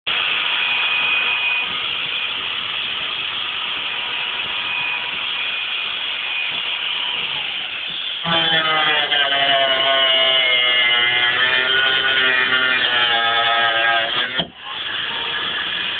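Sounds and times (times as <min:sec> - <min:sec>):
angle grinder whining: 0:00.1 - 0:15.9
grinder disc cutting sheet metal: 0:00.1 - 0:15.9.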